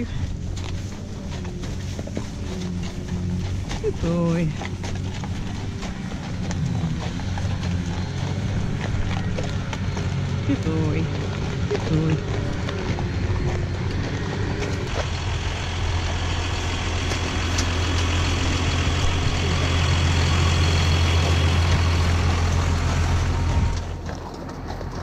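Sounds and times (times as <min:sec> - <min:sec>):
tractor diesel engine passing: 0:00.0 - 0:25.0.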